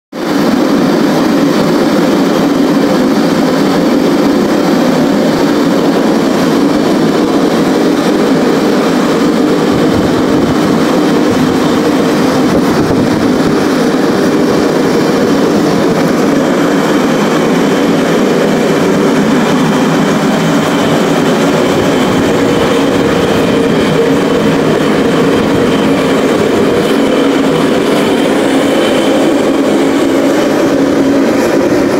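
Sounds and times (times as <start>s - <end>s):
gas burners roaring: 0.2s - 31.9s.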